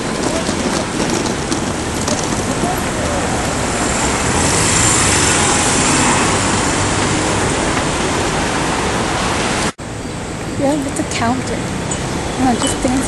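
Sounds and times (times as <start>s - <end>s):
street traffic noise: 0.0s - 13.0s
van passing close: 0.0s - 13.0s.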